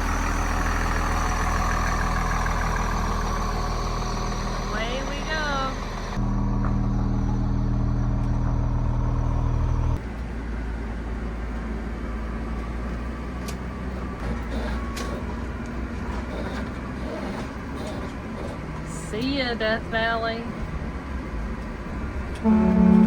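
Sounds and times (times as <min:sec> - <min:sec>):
diesel engine deep hum: 0:00.0 - 0:23.0
engine and road noise rumble: 0:00.0 - 0:23.0.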